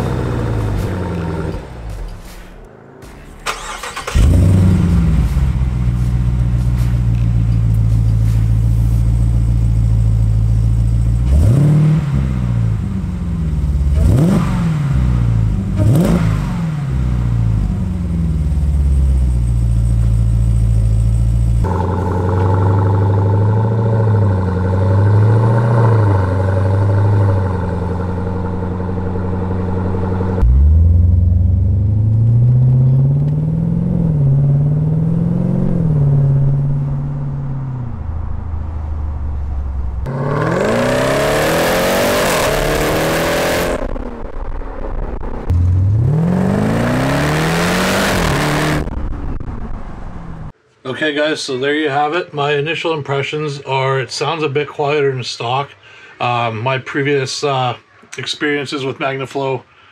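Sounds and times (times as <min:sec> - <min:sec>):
car engine revving and idling: 0:00.0 - 0:50.6.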